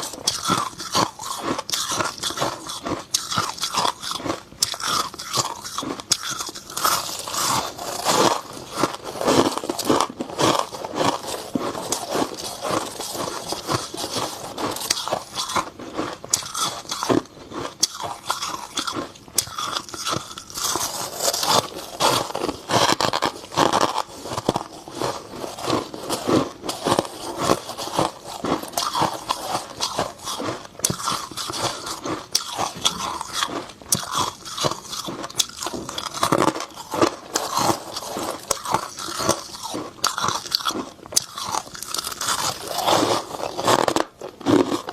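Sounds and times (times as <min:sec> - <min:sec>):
crunching frost: 0:00.0 - 0:44.9.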